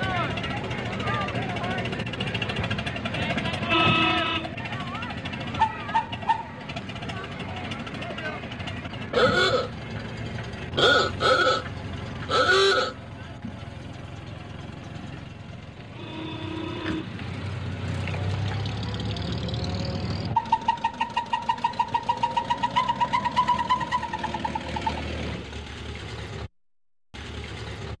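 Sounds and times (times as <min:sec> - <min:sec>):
car engines passing: 0:00.0 - 0:26.5, 0:27.2 - 0:28.0.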